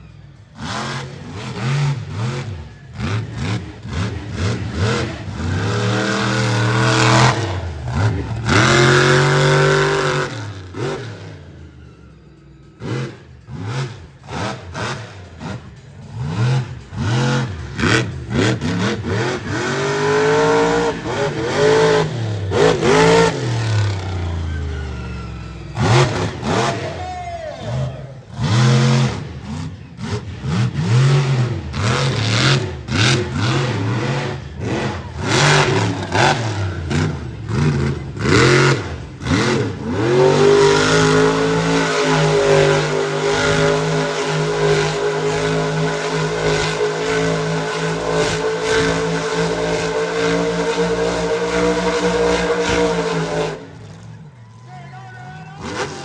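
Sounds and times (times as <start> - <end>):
truck engine revving hard: 0.0 - 54.4, 55.2 - 56.0.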